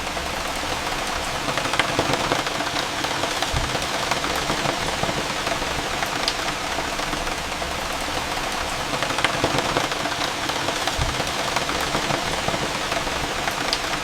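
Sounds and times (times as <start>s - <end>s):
rain falling: 0.0s - 14.0s
raindrops ticking close by: 0.0s - 14.0s.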